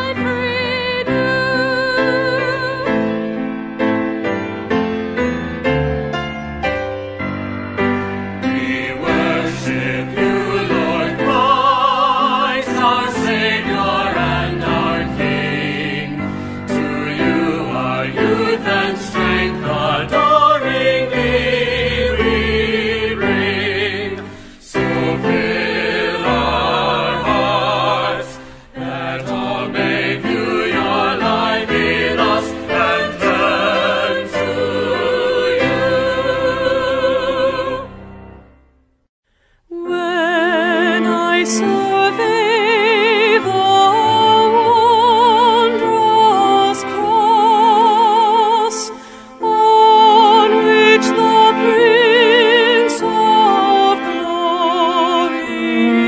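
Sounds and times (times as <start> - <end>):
choir singing a hymn: 0.0 - 5.4, 7.7 - 38.4, 39.7 - 56.0.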